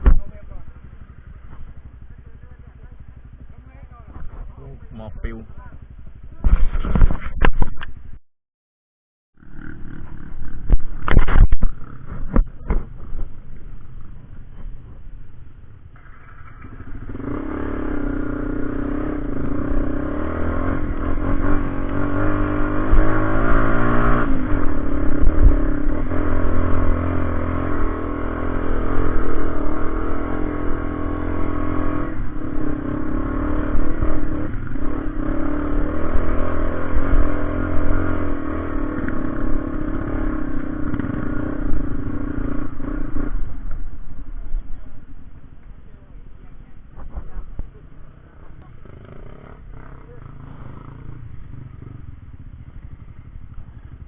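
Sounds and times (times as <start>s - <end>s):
motorcycle engine running: 0.0s - 8.2s, 9.4s - 54.0s.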